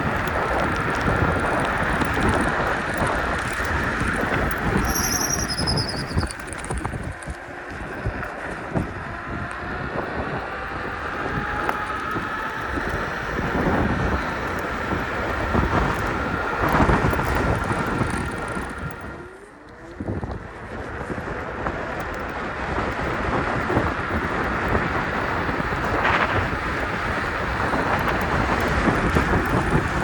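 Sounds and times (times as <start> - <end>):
faint motor whine: 0.0 - 30.0
road and tyre noise: 0.0 - 30.0
wind buffeting microphone: 0.0 - 30.0.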